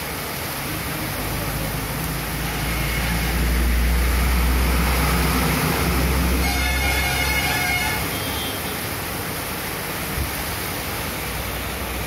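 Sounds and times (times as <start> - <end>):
heavy rain on a wet street: 0.0 - 12.0.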